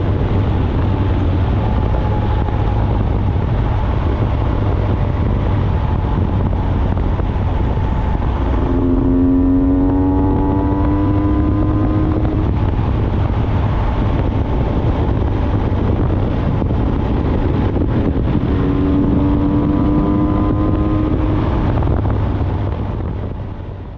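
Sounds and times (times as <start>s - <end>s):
motorcycle engine running: 0.0s - 23.9s
wind rumble on microphone: 0.0s - 23.9s.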